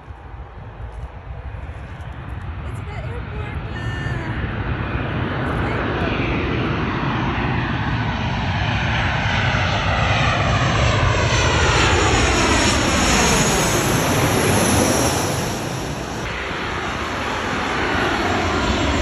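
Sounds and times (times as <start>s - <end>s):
airliner engine passing overhead: 0.0s - 19.0s.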